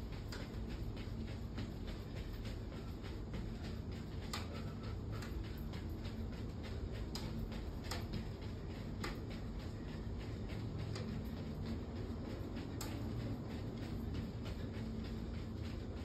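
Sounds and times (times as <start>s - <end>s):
sneakers tapping on floor: 0.0s - 16.0s
steady low hum: 0.0s - 16.0s.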